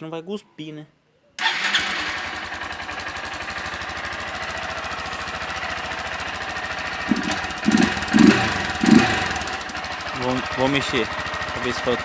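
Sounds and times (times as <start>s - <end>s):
motorcycle engine idling: 1.4s - 12.0s.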